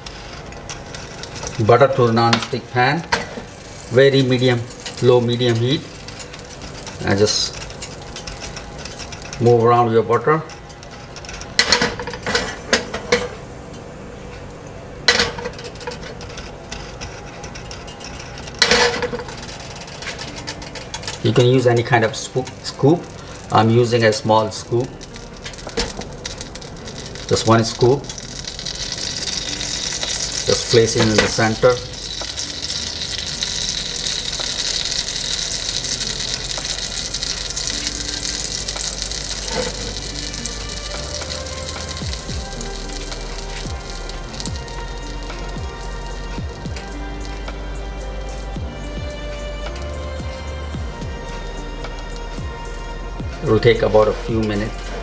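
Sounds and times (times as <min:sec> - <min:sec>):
batter sizzling in a pan: 0:00.0 - 0:55.0.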